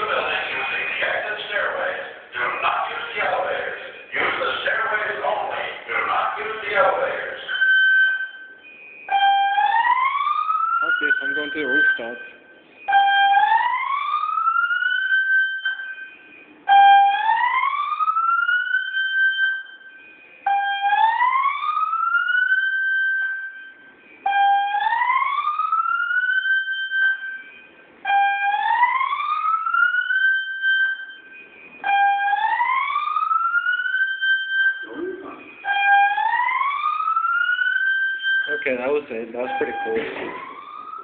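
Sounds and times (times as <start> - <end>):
fire alarm rising whoop: 6.3 - 41.0.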